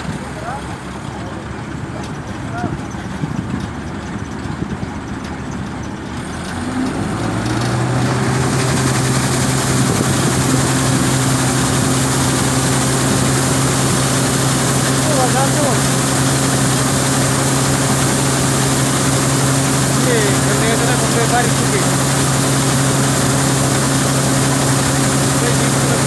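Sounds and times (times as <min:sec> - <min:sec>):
harvester engine running: 0:00.0 - 0:26.0.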